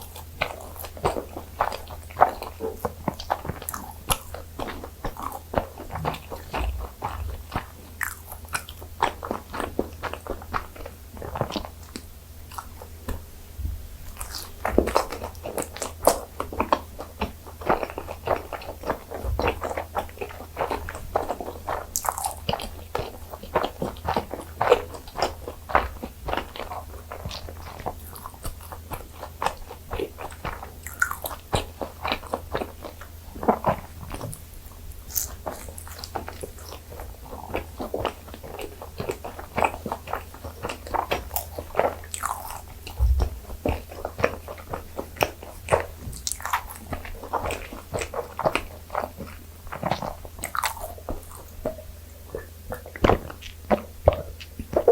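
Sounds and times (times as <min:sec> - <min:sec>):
biting and chewing food: 0:00.0 - 0:54.9.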